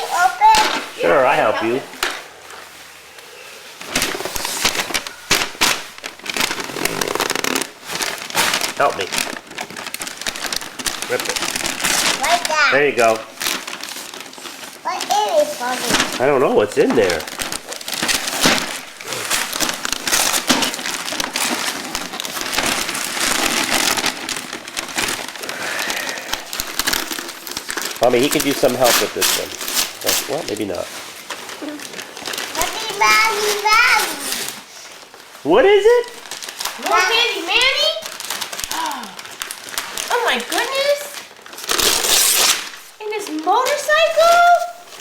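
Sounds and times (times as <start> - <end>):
wrapping paper tearing and crinkling: 0.0 - 45.0.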